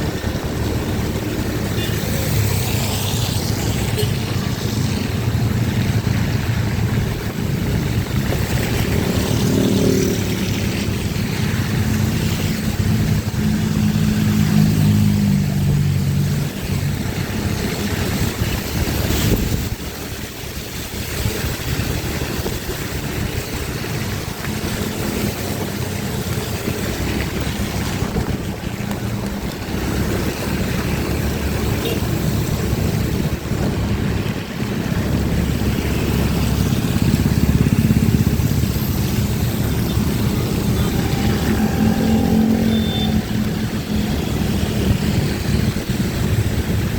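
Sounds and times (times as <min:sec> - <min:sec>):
tyres hissing on wet road: 0:00.0 - 0:46.9
vehicle engine hum: 0:00.0 - 0:46.9.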